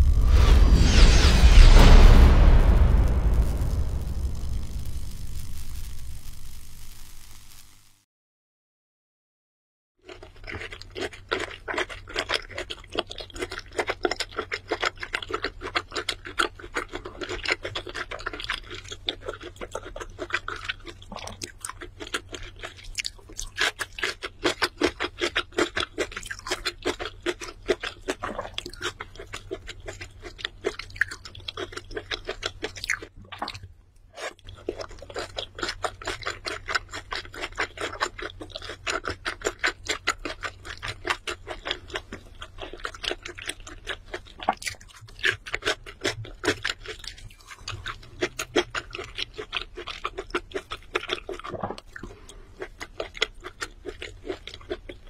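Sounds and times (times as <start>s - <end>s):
person chewing food: 10.0s - 55.0s.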